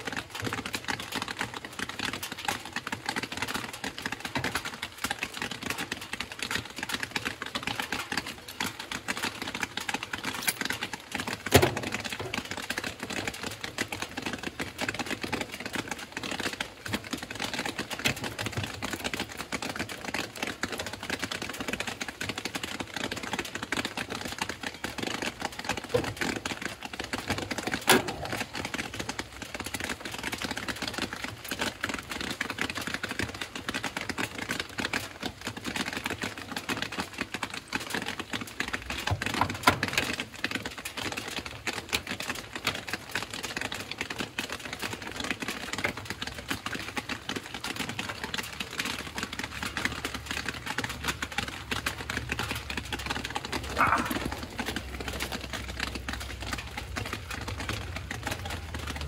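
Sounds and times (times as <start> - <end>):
rain tapping on an umbrella: 0.0 - 59.0.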